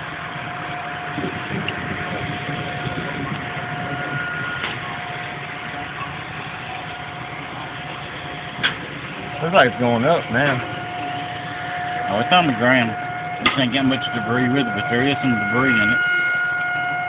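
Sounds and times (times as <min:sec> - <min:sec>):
mechanical hum with whine: 0:00.0 - 0:17.0.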